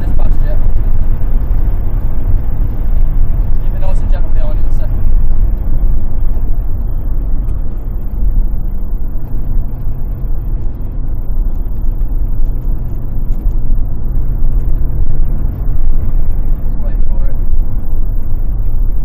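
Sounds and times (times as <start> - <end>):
car engine rumble from inside: 0.0 - 19.0
wind and road noise: 0.0 - 19.0.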